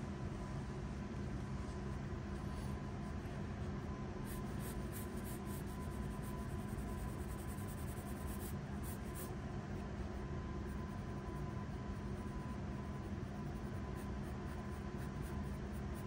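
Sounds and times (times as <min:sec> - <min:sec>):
steady low hum: 0:00.0 - 0:16.0
pencil scratching on paper: 0:02.3 - 0:16.0.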